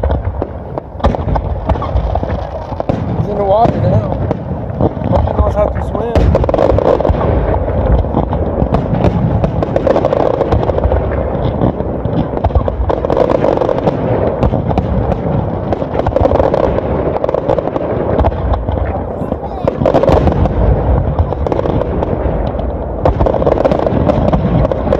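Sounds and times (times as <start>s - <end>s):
fireworks bangs and crackles: 0.0s - 24.9s.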